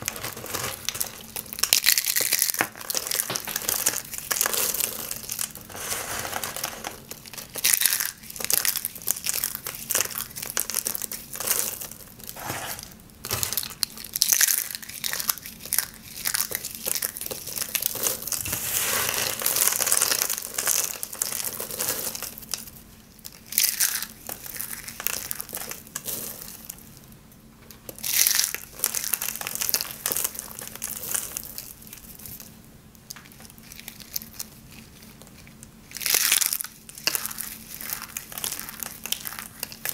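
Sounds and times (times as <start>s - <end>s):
soap shavings crunching: 0.0s - 12.4s, 13.6s - 26.9s, 27.9s - 32.5s, 33.3s - 39.9s.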